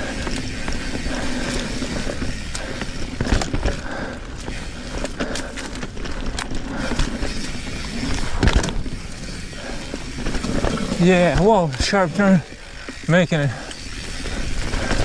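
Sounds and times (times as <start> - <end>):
bike knocking and rattling: 0.0 - 15.0
bike tyres on dirt trail: 0.0 - 15.0.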